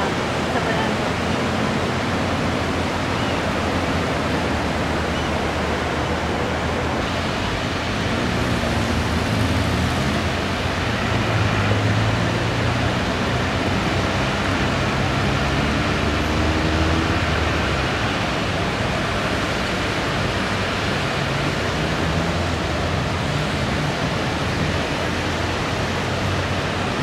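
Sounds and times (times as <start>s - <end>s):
rain on wet pavement: 0.0s - 27.0s.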